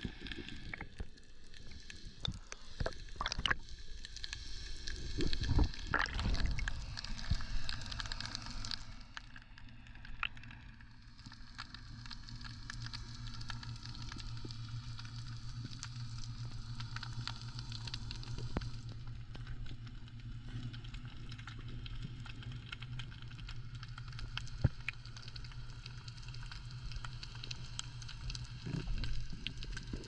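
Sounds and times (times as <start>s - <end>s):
faint crackle: 0.0s - 30.0s
water sloshing and gurgling: 0.0s - 30.0s.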